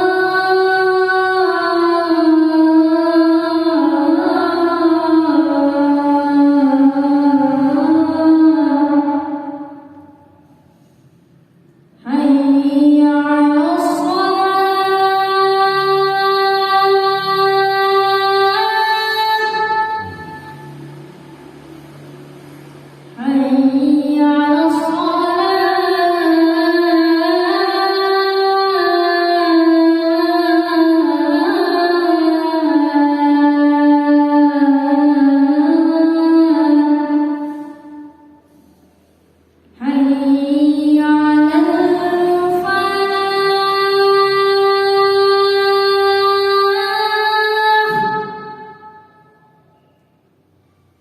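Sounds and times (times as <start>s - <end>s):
person chanting call to prayer: 0.0s - 10.2s, 12.0s - 38.3s, 39.8s - 49.5s
faint low hum: 0.0s - 51.0s.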